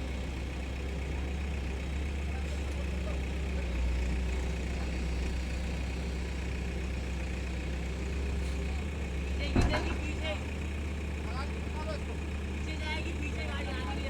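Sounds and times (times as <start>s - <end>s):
diesel machine engines humming: 0.0s - 14.0s.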